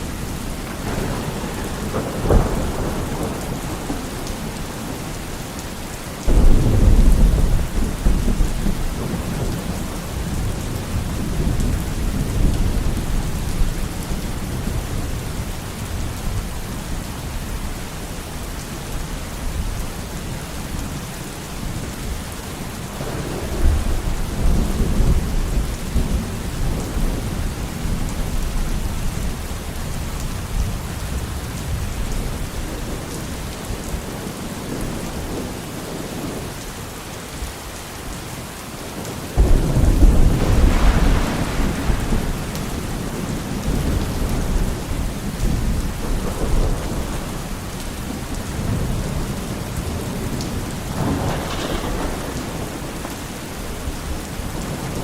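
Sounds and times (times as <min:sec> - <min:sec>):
thunder rumbling: 0:00.0 - 0:16.4, 0:23.0 - 0:36.4, 0:39.0 - 0:55.0
heavy rain falling: 0:00.0 - 0:55.0.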